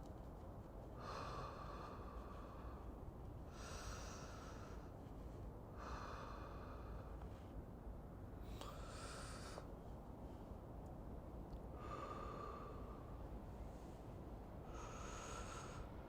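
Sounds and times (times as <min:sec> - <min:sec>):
low background rumble: 0:00.0 - 0:16.0
slow breathing: 0:00.8 - 0:07.8, 0:08.4 - 0:10.7, 0:11.6 - 0:16.0.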